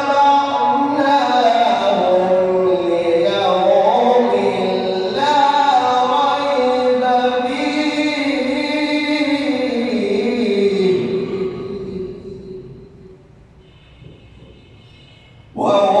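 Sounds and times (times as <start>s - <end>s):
man chanting melodically: 0.0s - 13.2s, 14.0s - 16.0s.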